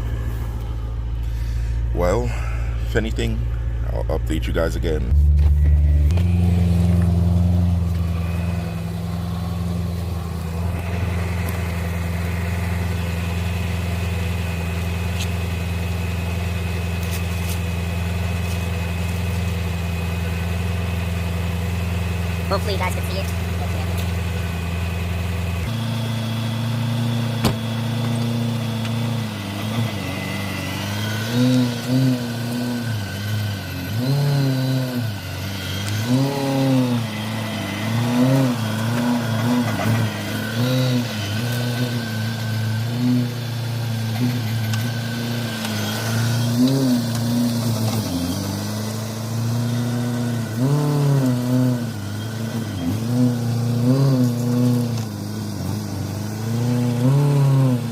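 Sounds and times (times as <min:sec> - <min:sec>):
car engine revving at low speed: 0:00.0 - 0:57.9.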